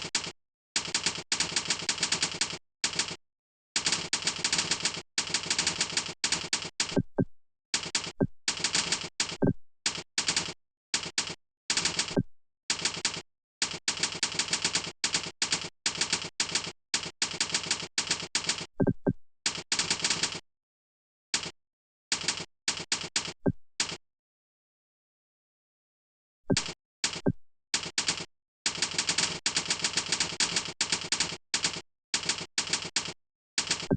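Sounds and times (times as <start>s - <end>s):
fast typing on keyboard: 0.0s - 3.2s, 3.8s - 7.1s, 7.8s - 18.9s, 19.5s - 20.4s, 21.4s - 24.0s, 26.5s - 33.9s.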